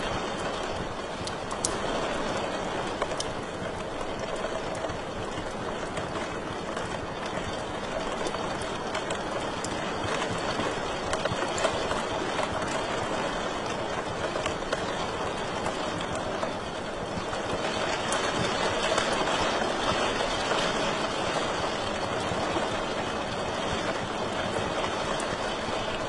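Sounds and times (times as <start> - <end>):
fire popping and snapping: 0.0 - 26.0.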